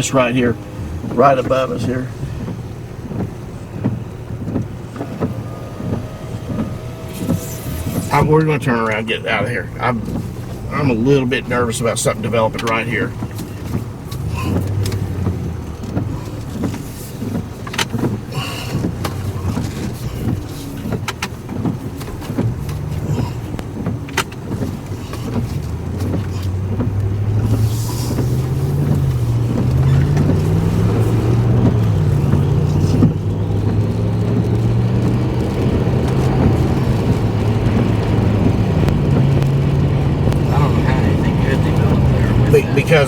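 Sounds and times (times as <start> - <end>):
car engine accelerating: 0.0 - 43.0
road noise inside car: 0.0 - 43.0.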